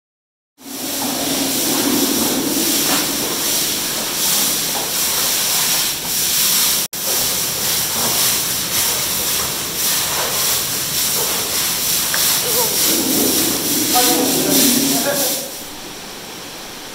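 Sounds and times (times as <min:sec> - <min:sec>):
deck brushes scrubbing wet tiles: 0:00.8 - 0:15.7.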